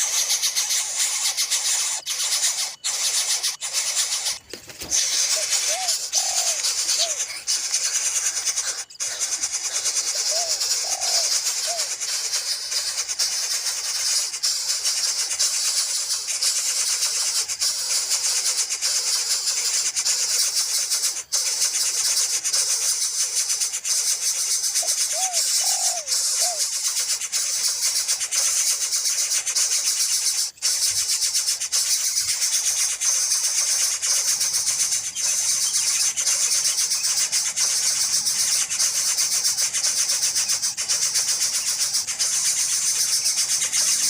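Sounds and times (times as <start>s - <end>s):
bird calling: 0.0s - 44.0s
steady high hiss: 0.0s - 44.0s.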